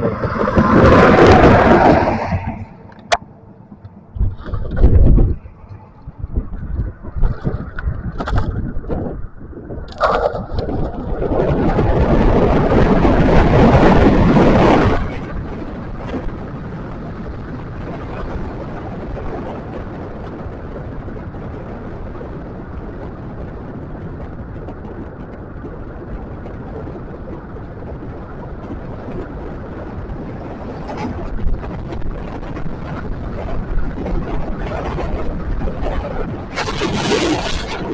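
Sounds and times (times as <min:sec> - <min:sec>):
wind and road noise: 0:00.0 - 0:37.9.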